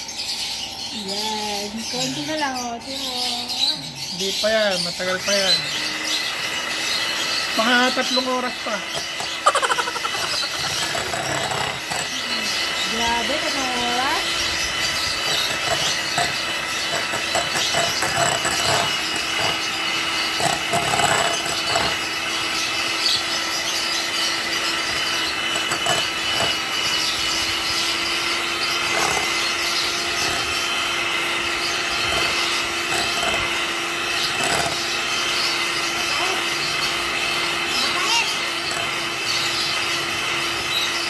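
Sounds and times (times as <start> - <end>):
electric hand mixer whipping: 0.0 - 41.0.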